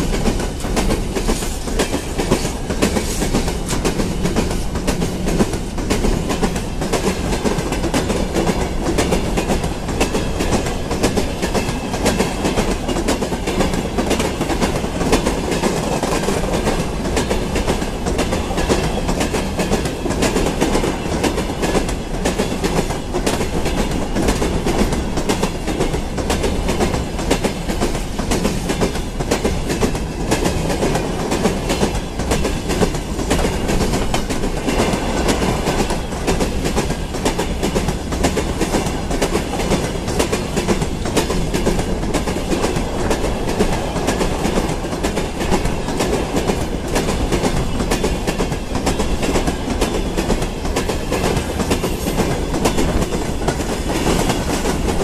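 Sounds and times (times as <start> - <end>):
clickety-clack over rail joints: 0.0 - 55.0
train wheels rumbling on rail: 0.0 - 55.0.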